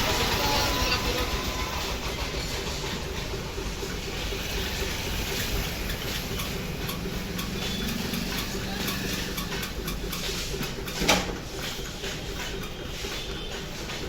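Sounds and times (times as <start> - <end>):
engine running: 0.0 - 13.2.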